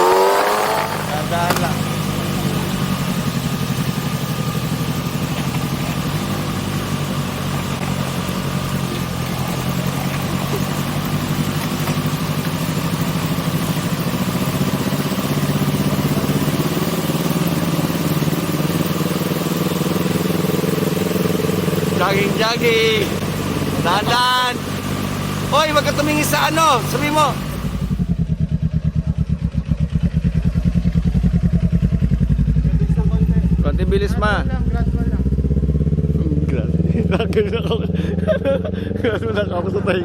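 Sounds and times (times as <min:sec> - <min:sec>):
motorcycle engine at low revs: 0:00.0 - 0:40.0.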